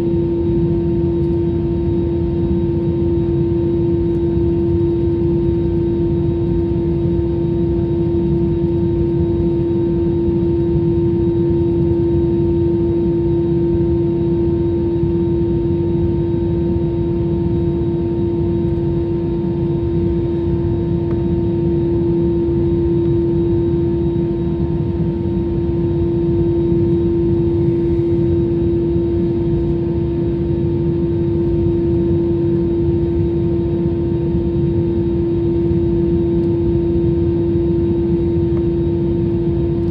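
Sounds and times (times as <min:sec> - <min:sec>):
jet engine and airflow rumble: 0:00.0 - 0:39.9
steady hum: 0:00.0 - 0:39.9.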